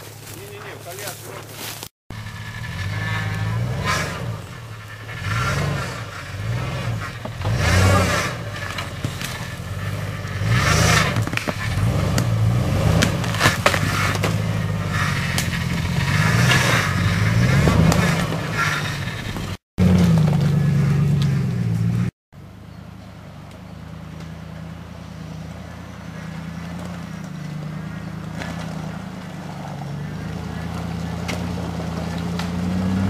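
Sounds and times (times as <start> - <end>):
vehicle knocks and scrapes: 0.0 - 22.1, 25.2 - 33.0
car engine revving: 0.2 - 33.0.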